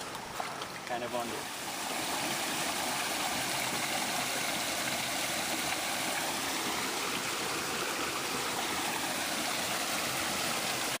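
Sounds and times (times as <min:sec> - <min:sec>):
water flowing: 0:00.0 - 0:11.0.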